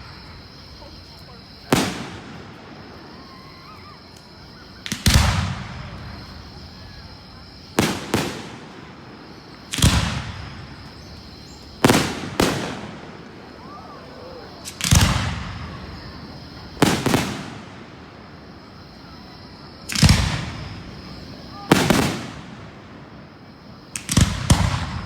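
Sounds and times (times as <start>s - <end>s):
fireworks booming with echoing rumble: 0.0s - 25.0s.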